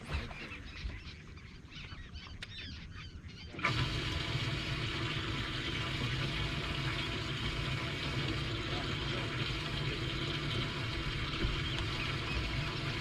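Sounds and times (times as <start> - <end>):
outboard motor running: 0.0 - 1.9, 2.5 - 13.0
birds calling: 0.0 - 6.0, 8.3 - 13.0
water noise: 0.0 - 13.0
wind: 0.0 - 13.0.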